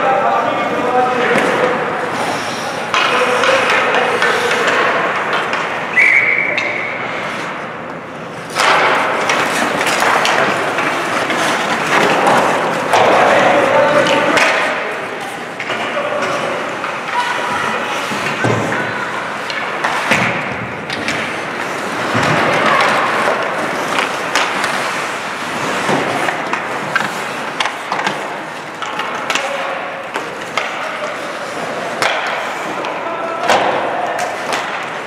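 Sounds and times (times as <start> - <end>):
skates scraping ice: 0.0 - 35.0
sticks and puck clacking: 0.0 - 35.0.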